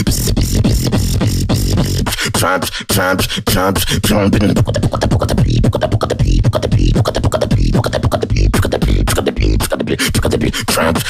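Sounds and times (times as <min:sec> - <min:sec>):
beatboxing: 0:00.0 - 0:11.0
vocal bass wobble: 0:00.0 - 0:11.0.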